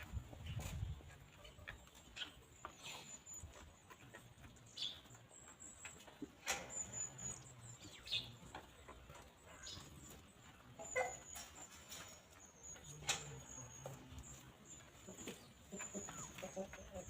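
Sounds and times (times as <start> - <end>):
chickens pecking and scratching grass: 0.0 - 17.0
small birds chirping: 0.0 - 17.0.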